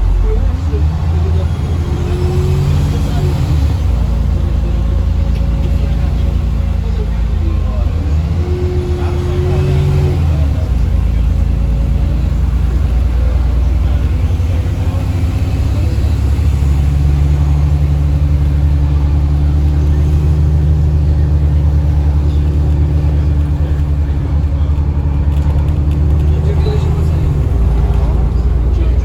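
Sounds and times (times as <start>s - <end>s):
bus engine drone: 0.0s - 29.0s.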